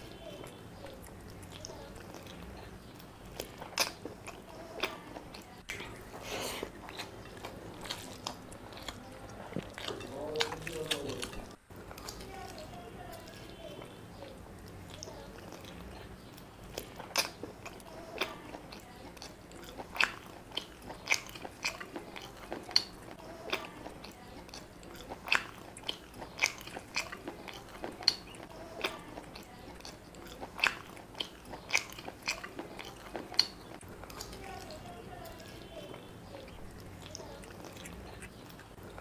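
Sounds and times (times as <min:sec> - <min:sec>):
wet chewing and lip smacking: 0:00.0 - 0:39.0.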